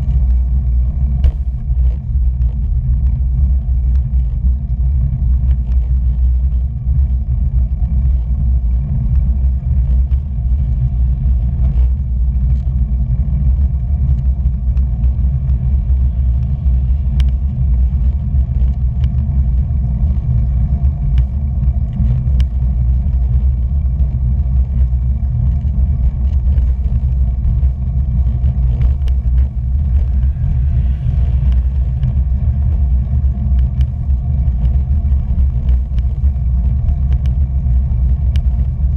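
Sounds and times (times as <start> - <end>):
light ticks from road surface: 0.0 - 38.9
wind rushing over microphone: 0.0 - 38.9.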